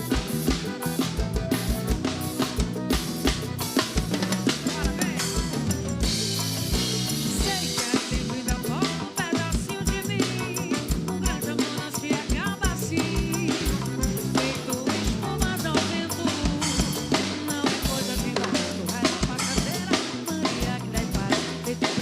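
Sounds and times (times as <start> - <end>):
instrumental band music: 0.0 - 22.0.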